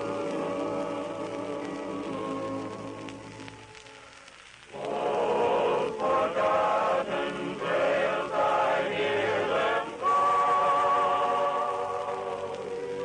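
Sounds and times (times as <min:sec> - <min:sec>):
vocal group singing in harmony: 0:00.0 - 0:03.7, 0:04.7 - 0:13.0.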